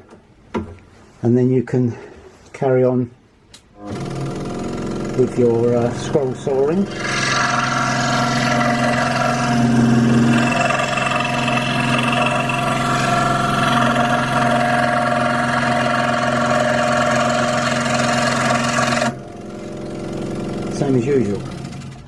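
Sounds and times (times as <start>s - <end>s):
scroll saw running: 3.8s - 22.0s.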